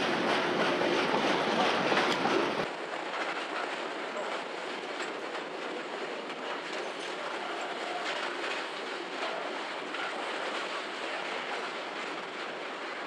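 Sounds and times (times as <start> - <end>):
train wheels clattering: 0.0 - 13.0.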